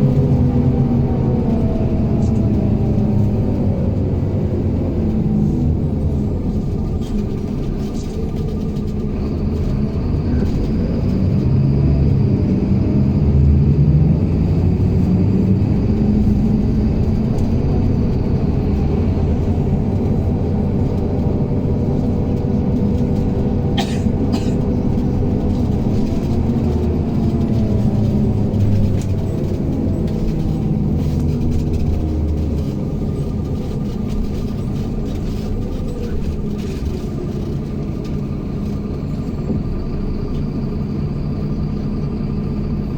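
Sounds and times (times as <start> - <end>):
bus engine running: 0.0 - 42.9
road noise rumble: 0.0 - 42.9.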